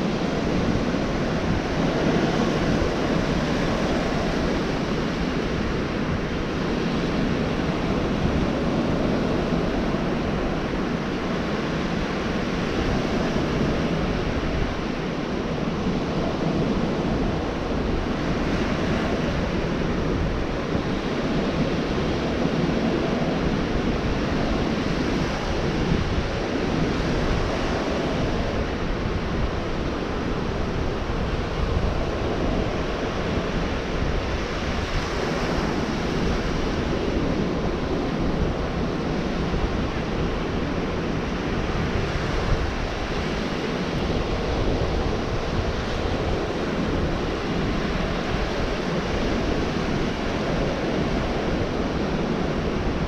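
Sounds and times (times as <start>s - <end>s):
surf breaking on beach: 0.0s - 53.0s
wind buffeting microphone: 0.0s - 53.0s.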